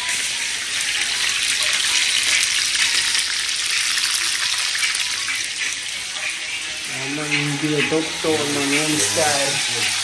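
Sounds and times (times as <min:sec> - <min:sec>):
chicken frying in oil: 0:00.0 - 0:10.0.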